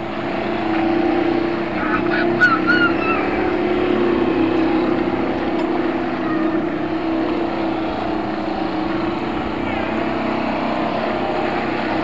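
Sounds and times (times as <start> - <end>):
small boat motors droning: 0.0 - 12.0.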